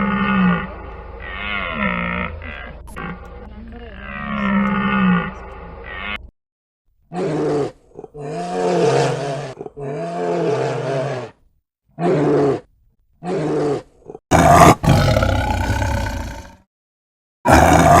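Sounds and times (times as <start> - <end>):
bear roaring: 0.0 - 6.3, 7.1 - 11.4, 12.0 - 16.6, 17.5 - 18.0.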